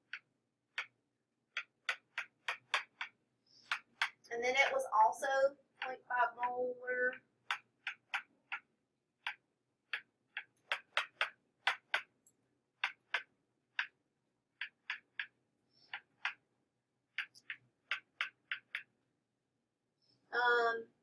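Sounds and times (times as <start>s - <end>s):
stylus tapping on tablet screen: 0.0s - 16.5s, 17.1s - 19.0s.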